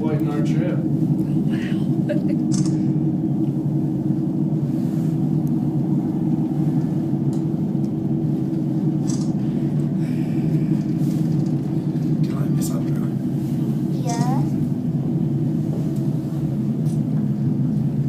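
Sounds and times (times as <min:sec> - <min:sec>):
cable car cabin rumbling: 0:00.0 - 0:18.0.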